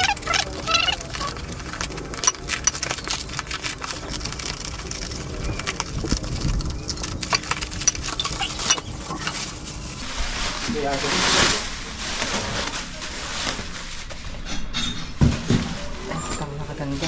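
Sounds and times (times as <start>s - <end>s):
plastic packaging crinkling: 0.0s - 14.2s.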